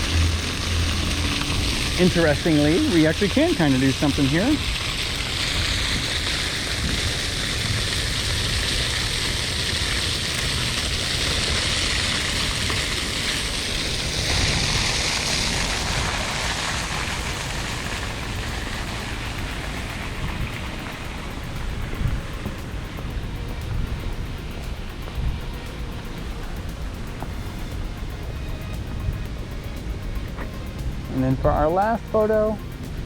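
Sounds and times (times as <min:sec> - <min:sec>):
water rushing and splashing: 0:00.0 - 0:33.0.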